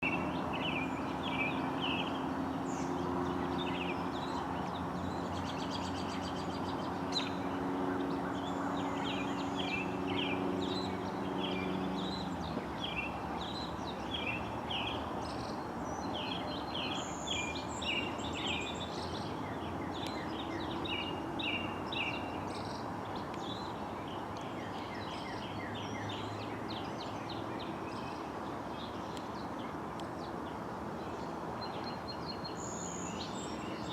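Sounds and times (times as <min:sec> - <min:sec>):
small birds chirping: 0:00.0 - 0:33.9
steady outdoor noise: 0:00.0 - 0:33.9.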